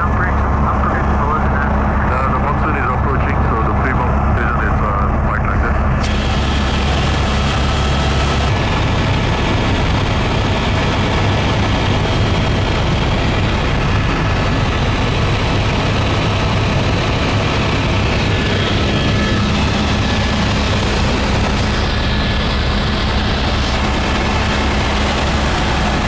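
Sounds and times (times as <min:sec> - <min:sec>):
helicopter turbine and rotor noise: 0:00.0 - 0:26.0.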